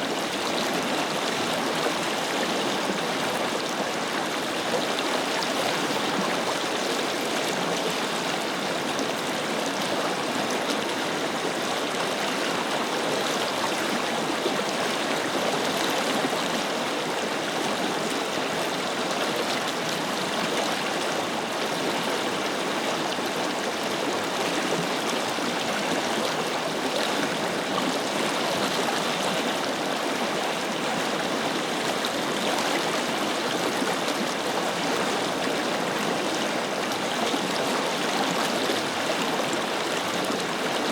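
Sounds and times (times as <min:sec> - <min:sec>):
river water rushing and babbling: 0:00.0 - 0:40.9.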